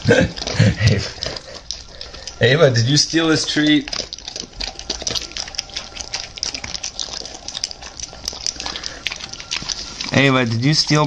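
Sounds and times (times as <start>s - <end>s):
dog licking and snuffling: 0.0s - 11.0s.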